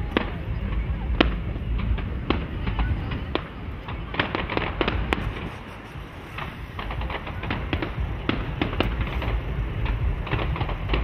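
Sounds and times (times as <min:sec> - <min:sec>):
fireworks bangs and crackles: 0:00.0 - 0:11.0
steady low rumble: 0:00.0 - 0:11.0.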